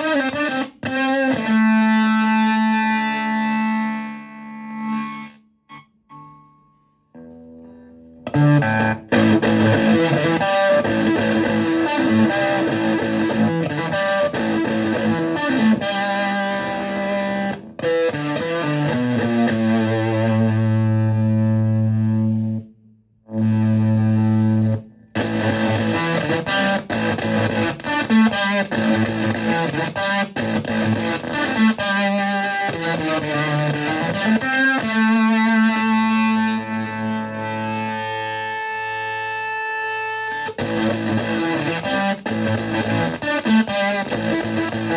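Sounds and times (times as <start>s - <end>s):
distorted fuzz electric guitar: 0.0s - 22.7s, 23.3s - 44.9s.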